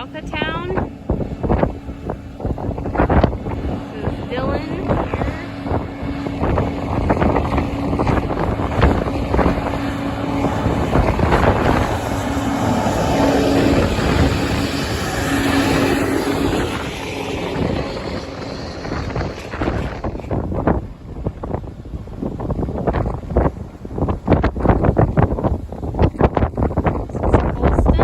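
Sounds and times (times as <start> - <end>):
engine hum: 0.0 - 28.0
wind buffeting microphone: 0.0 - 28.0.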